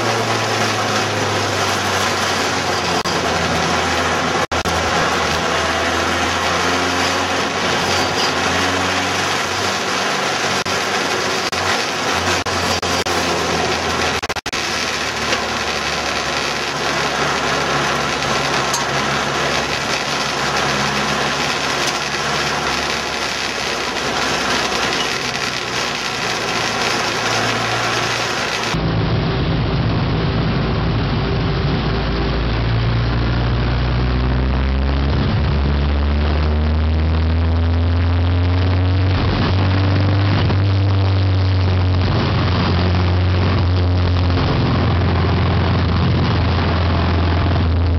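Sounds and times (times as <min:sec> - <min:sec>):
deep engine revving: 0:00.0 - 0:47.9
race car engines running: 0:00.0 - 0:47.9.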